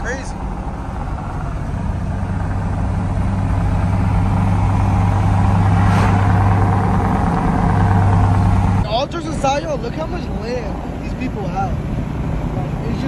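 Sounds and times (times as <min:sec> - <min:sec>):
engine and road drone: 0:00.0 - 0:13.0.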